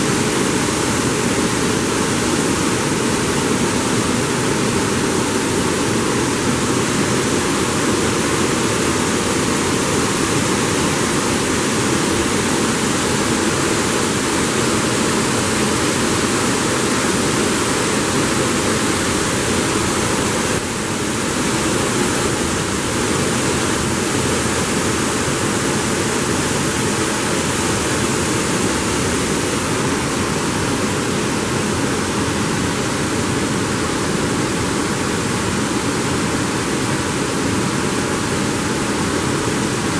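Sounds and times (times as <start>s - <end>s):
water rushing through sluice: 0.0s - 39.9s.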